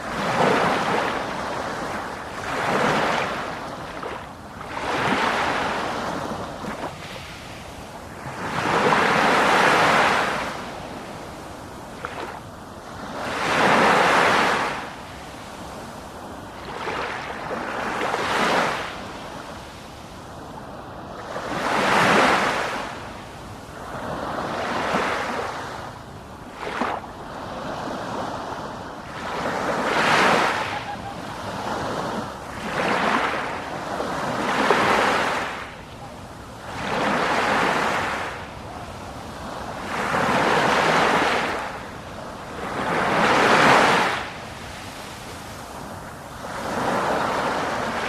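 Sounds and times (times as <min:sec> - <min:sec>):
ocean waves breaking on shore: 0:00.0 - 0:48.0.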